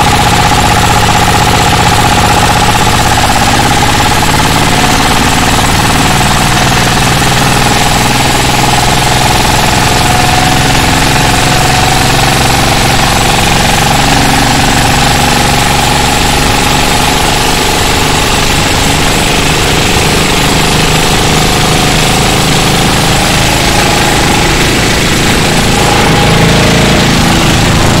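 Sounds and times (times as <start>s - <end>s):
boat diesel engine running: 0.0s - 28.0s
high whine: 0.0s - 28.0s.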